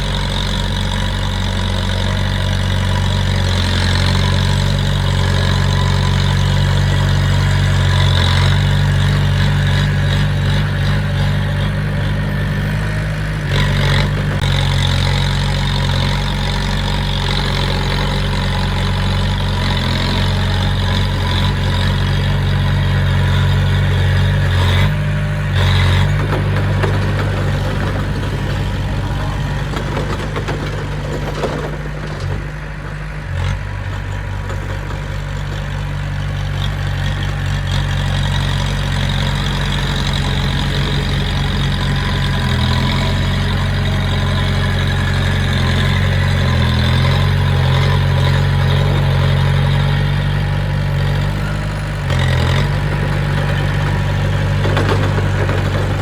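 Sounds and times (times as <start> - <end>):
diesel engine running at low revs: 0.0 - 56.0.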